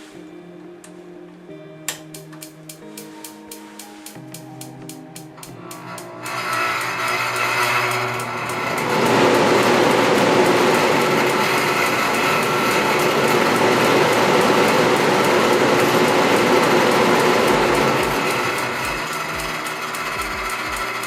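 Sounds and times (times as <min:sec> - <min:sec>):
heater fan whirring: 0:01.9 - 0:21.0.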